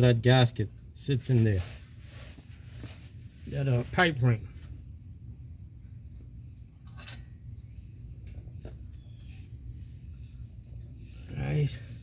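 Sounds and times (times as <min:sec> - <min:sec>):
high-pitched insect trill: 0:00.0 - 0:12.0
low background rumble: 0:00.0 - 0:12.0.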